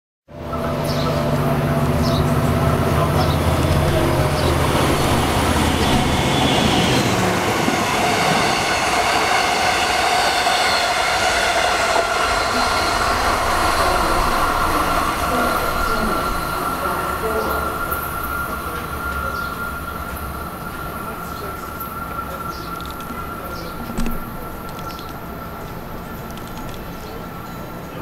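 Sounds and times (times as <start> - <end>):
higher electric whine: 0.3 - 24.6
low humming drone: 0.3 - 28.0
train rolling on rails: 0.3 - 28.0.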